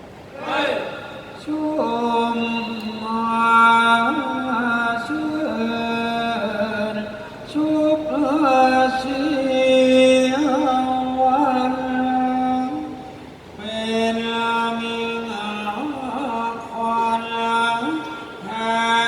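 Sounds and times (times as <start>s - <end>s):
person chanting long held notes: 0.4s - 19.0s.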